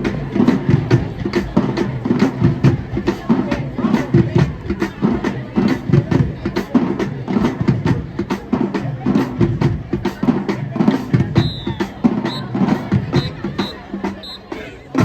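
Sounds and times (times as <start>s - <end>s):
marching band playing: 0.0s - 15.0s
snare and bass drums beating: 0.0s - 15.0s.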